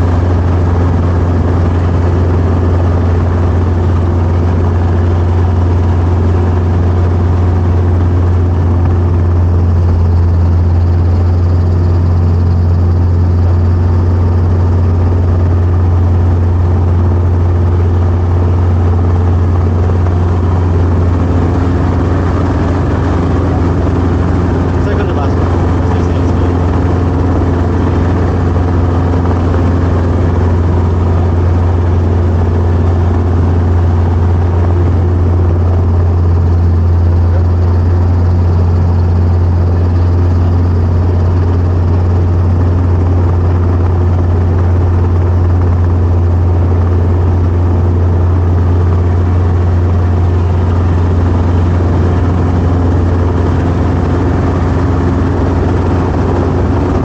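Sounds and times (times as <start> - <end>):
helicopter engine and rotors: 0.0 - 57.0.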